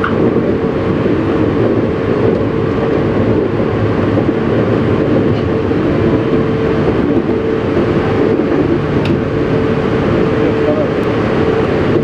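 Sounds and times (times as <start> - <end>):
steady train hum: 0.0 - 12.0
train wheels rumbling on rail: 0.0 - 12.0.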